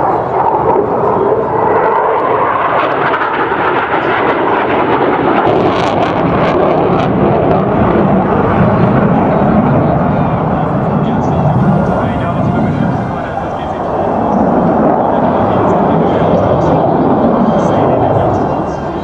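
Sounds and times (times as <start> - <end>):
fighter jet noise: 0.0 - 19.0.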